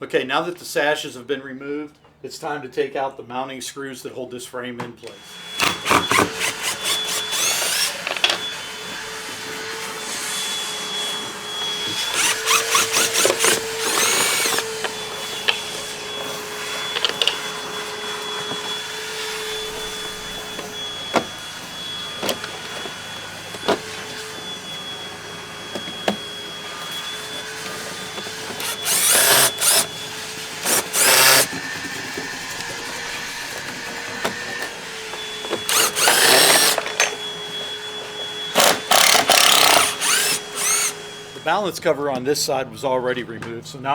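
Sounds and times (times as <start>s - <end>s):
power drill whining: 5.0s - 42.0s.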